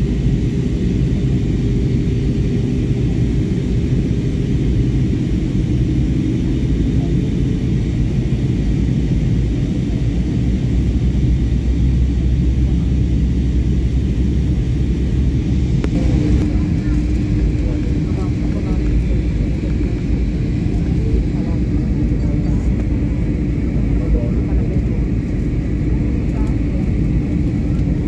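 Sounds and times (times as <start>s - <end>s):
jet engines rumbling in cabin: 0.0s - 28.0s.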